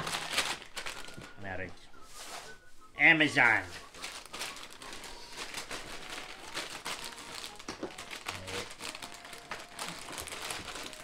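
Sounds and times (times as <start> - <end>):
plastic packaging crinkling: 0.0 - 1.6, 3.6 - 11.0.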